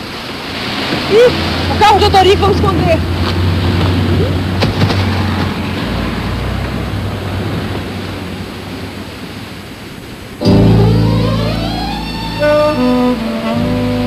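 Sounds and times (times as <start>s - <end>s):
surf rushing: 0.0s - 14.0s
wind: 0.0s - 14.0s.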